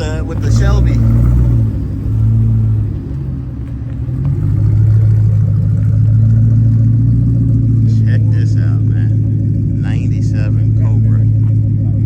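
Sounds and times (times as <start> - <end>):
car exhaust rumbling: 0.0 - 12.0.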